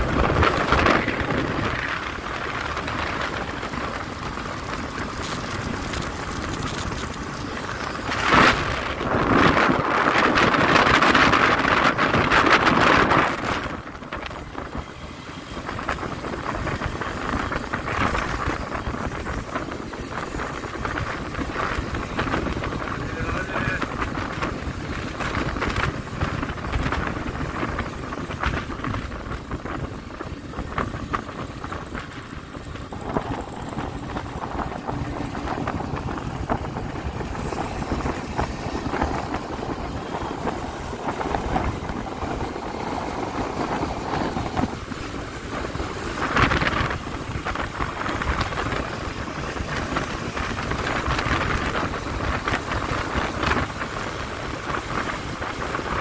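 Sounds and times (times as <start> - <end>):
scooter engine and road noise: 0.0 - 56.0
wind buffeting microphone: 0.0 - 56.0.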